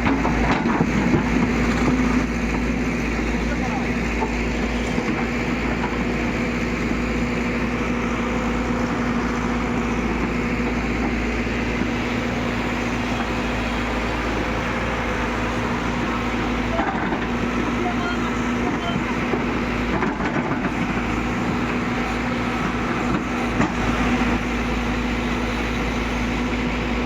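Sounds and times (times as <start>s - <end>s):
diesel engine running steadily: 0.0s - 27.0s.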